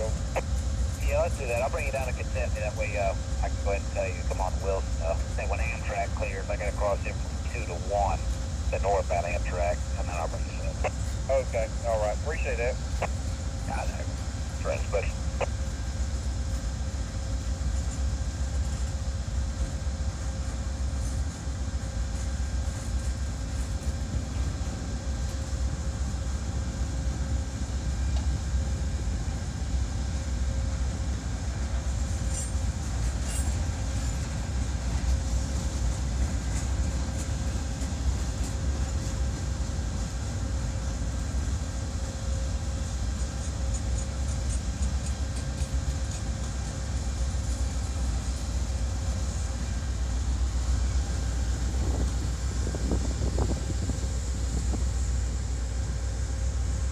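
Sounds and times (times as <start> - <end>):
locomotive engine hum: 0.0 - 56.9.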